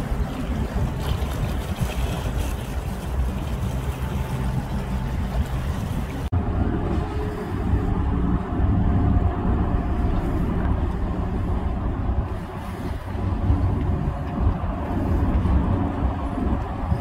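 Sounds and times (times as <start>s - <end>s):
steady low rumble: 0.0s - 17.0s
water lapping: 0.0s - 17.0s
wind noise on microphone: 0.0s - 17.0s.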